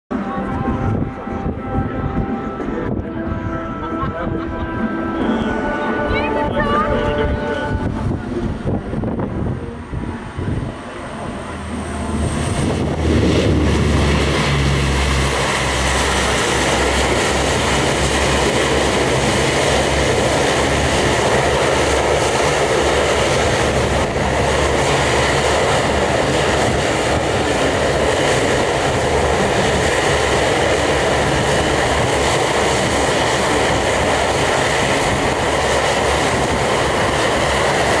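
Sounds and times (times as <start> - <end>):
steady whine: 0.1 - 38.0
turboprop engines running: 0.1 - 38.0.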